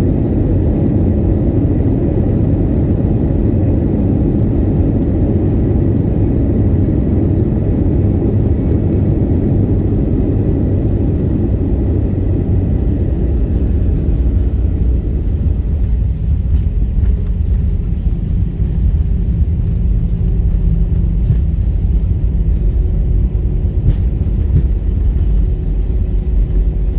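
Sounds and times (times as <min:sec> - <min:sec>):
airliner cabin rumble: 0:00.0 - 0:26.9.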